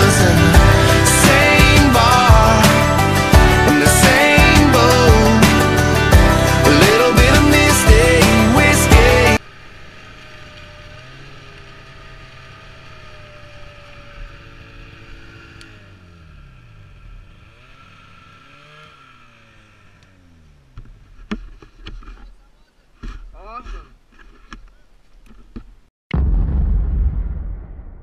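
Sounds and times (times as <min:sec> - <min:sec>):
snowmobile engine running: 0:00.0 - 0:22.7.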